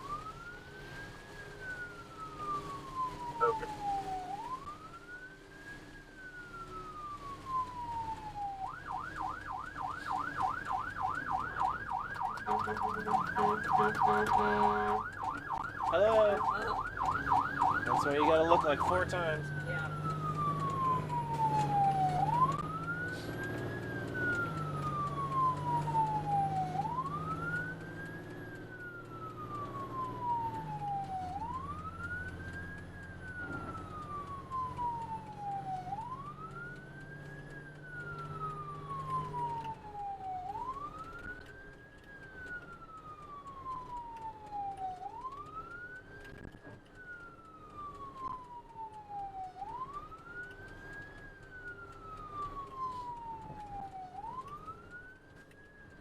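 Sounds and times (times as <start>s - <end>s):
ambulance siren wailing: 0.0s - 56.0s
low vehicle hum: 0.0s - 56.0s.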